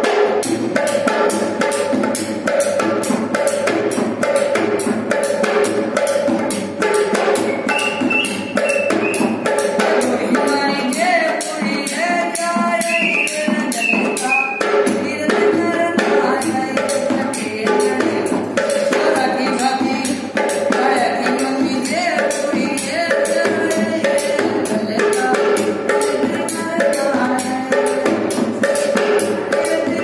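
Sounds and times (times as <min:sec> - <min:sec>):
jingling percussion and drum: 0:00.0 - 0:30.0.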